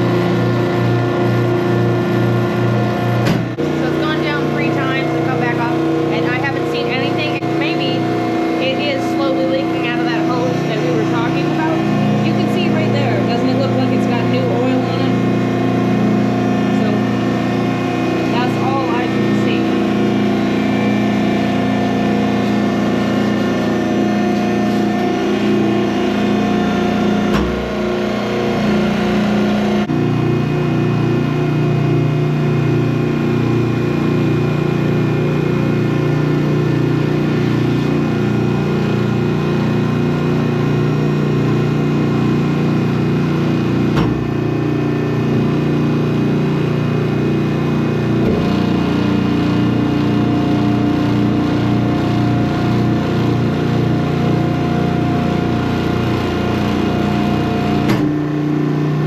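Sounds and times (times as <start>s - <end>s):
hydraulic machine running: 0.0s - 59.0s.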